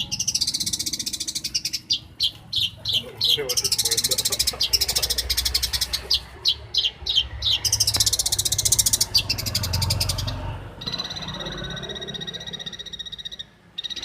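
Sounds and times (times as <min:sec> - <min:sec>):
bird chattering song: 0:00.0 - 0:14.0
bird pulsed trill: 0:00.0 - 0:14.0.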